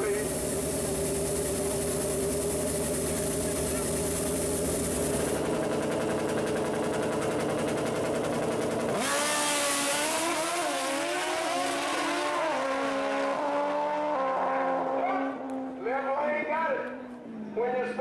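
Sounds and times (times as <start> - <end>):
drag motorcycles accelerating hard: 0.0 - 16.0.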